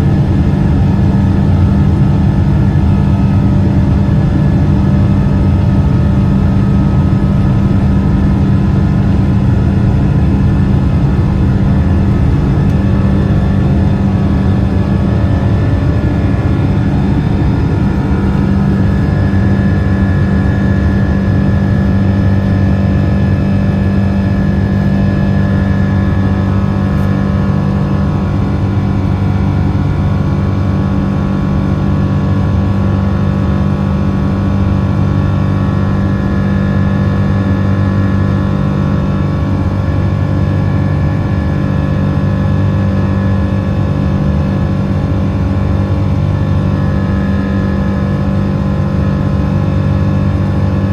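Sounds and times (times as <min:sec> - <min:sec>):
jet engines droning: 0:00.0 - 0:50.9
steady high engine whine: 0:00.0 - 0:50.9.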